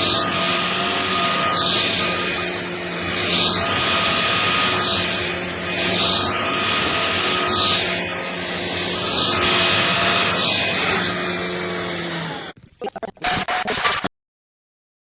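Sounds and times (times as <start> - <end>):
stick vacuum running: 0.0 - 13.9.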